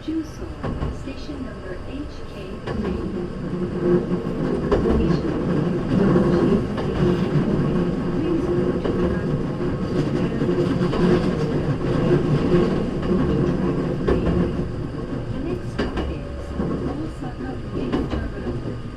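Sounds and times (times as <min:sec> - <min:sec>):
train rumble and motor hum: 0:00.0 - 0:18.9.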